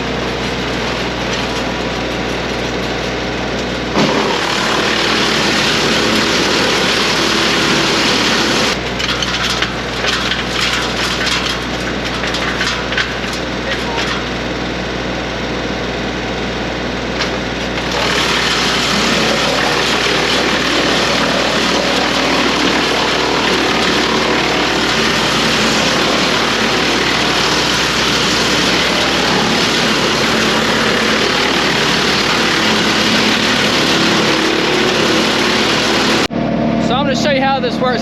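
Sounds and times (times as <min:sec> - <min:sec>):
wood chipper running: 0:00.0 - 0:38.0.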